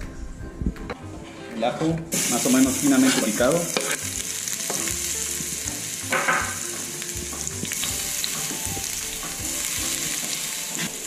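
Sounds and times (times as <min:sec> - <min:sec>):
garlic sizzling in hot oil: 0:02.1 - 0:11.0.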